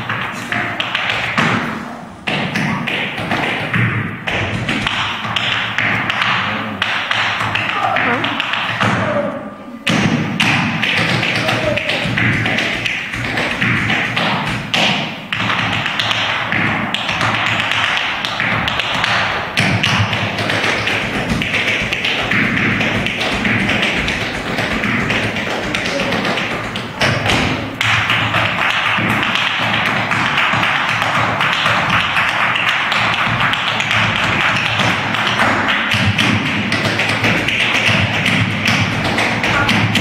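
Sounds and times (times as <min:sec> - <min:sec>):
tap shoes on stage floor: 0:00.0 - 0:09.1, 0:09.9 - 0:40.0.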